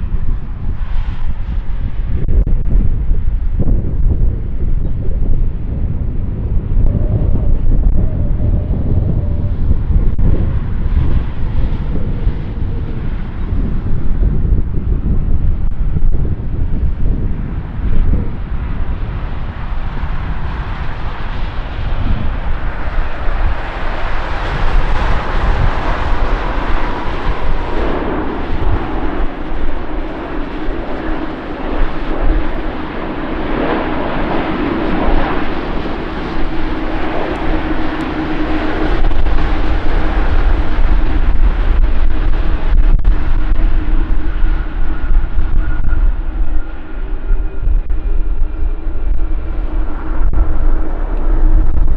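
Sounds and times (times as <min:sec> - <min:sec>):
jet engines roaring: 0:00.0 - 0:51.9.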